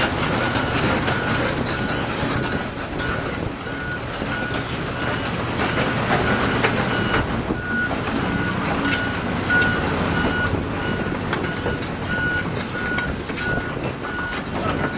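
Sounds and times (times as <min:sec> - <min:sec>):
diesel engine running: 0:00.0 - 0:14.9
steel tracks clanking: 0:00.0 - 0:14.9
reversing alarm beeping: 0:00.3 - 0:14.9.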